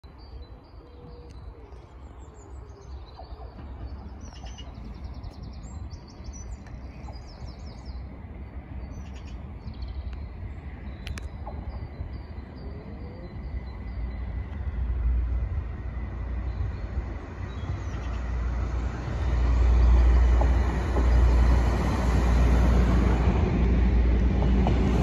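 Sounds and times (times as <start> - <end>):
small birds singing: 0.0 - 23.7
train engine rumble: 0.1 - 25.0.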